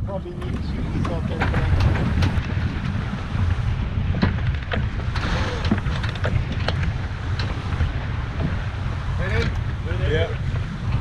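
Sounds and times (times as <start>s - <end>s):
wind buffeting microphone: 0.0s - 11.0s
water rushing past hull: 0.4s - 11.0s.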